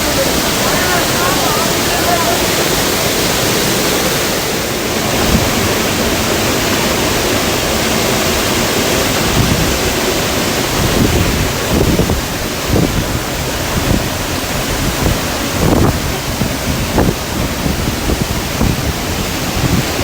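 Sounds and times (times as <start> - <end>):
waterfall rushing: 0.0 - 20.0
wind buffeting microphone: 0.0 - 20.0.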